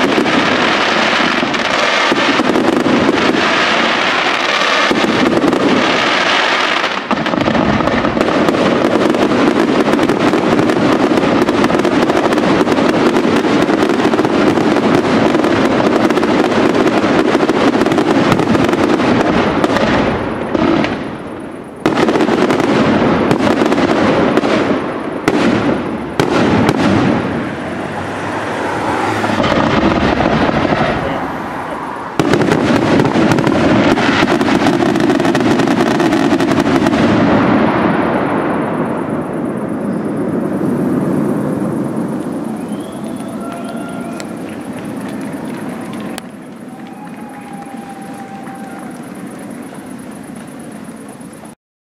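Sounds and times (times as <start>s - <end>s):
fireworks bangs and crackling: 0.0s - 51.6s.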